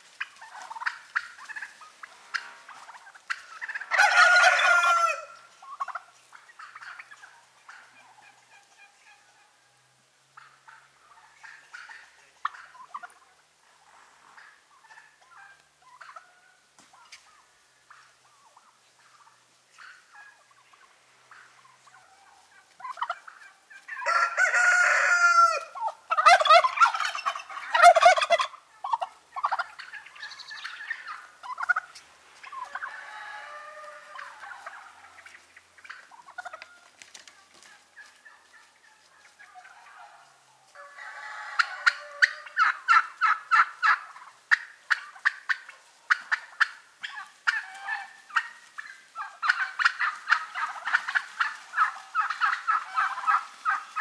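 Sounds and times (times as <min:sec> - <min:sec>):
turkeys gobbling: 0:00.0 - 0:54.0.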